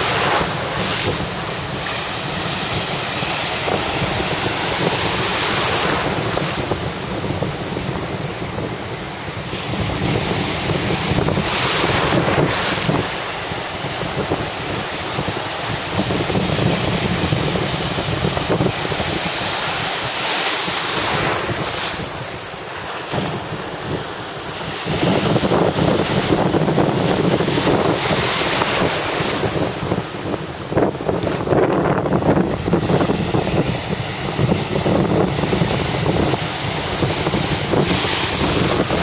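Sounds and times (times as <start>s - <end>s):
small waves breaking: 0.0s - 39.0s
wind buffeting microphone: 0.0s - 39.0s.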